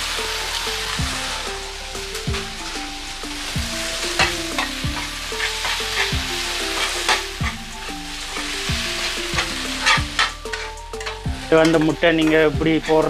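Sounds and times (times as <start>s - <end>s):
food sizzling in oil: 0.0s - 13.0s
metal spatula scraping pan: 0.1s - 13.0s.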